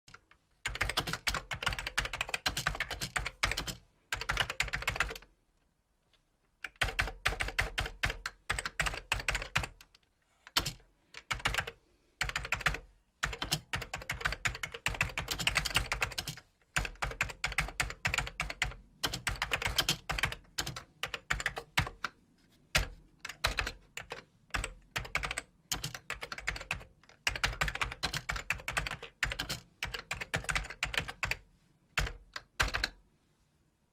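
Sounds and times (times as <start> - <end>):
typing on keyboard: 0.1 - 5.3, 6.6 - 31.4, 32.0 - 33.0.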